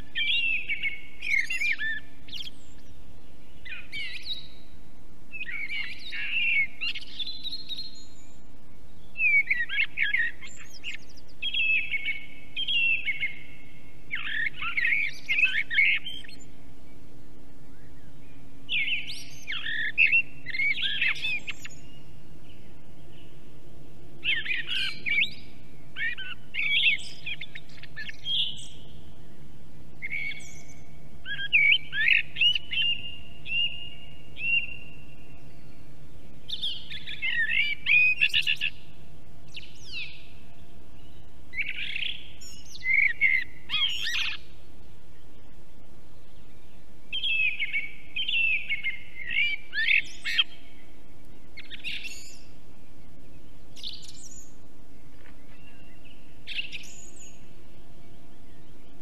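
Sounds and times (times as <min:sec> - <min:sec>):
songbird warbling: 0:00.0 - 0:16.6, 0:17.6 - 0:23.6, 0:24.2 - 0:59.0
faint steady hum: 0:00.0 - 0:59.0.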